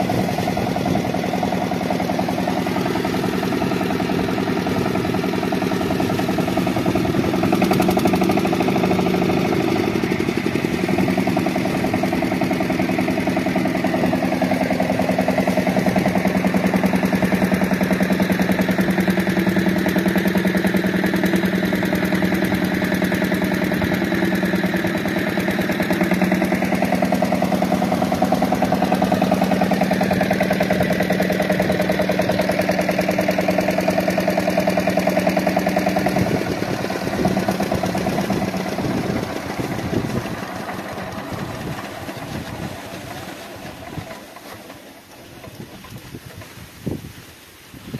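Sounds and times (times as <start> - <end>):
stationary diesel engine running: 0.0 - 47.1.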